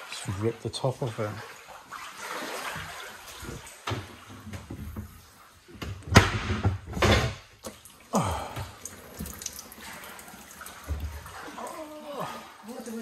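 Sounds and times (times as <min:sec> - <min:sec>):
floodwater sloshing: 0:00.0 - 0:05.9, 0:07.5 - 0:13.0.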